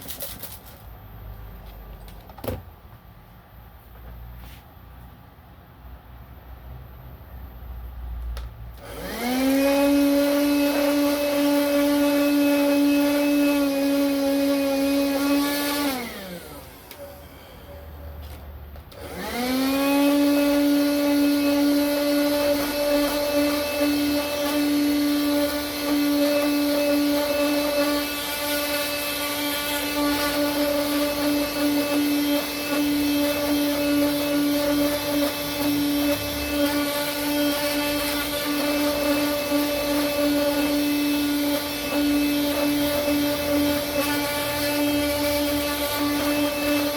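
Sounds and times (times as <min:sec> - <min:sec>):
vacuum cleaner motor whine: 0:08.8 - 0:46.9.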